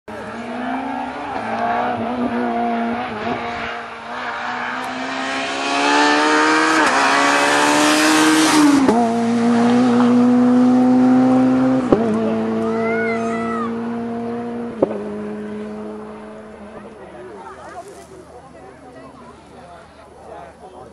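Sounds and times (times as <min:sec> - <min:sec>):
rally car engine passing: 0:00.1 - 0:17.4.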